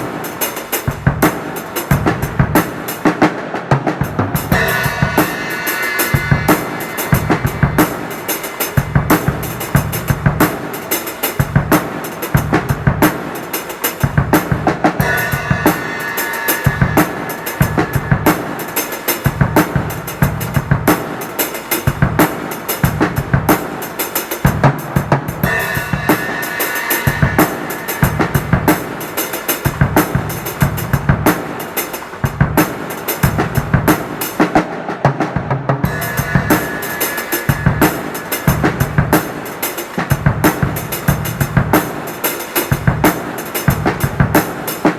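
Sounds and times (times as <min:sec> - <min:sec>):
drum kit groove: 0:00.0 - 0:44.9.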